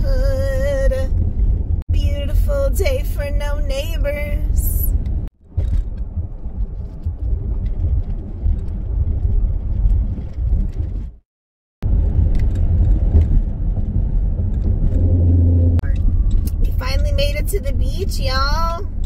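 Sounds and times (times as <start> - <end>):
car road and engine rumble: 0.0 - 11.2, 11.8 - 19.0.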